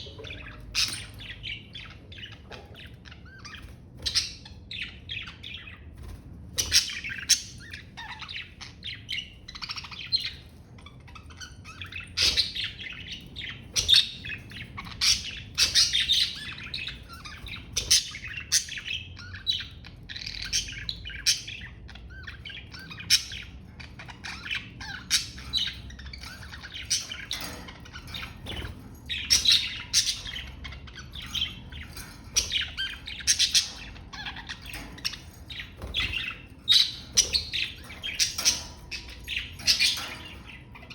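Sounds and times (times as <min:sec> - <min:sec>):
budgerigars chirping and warbling: 0:00.0 - 0:40.9.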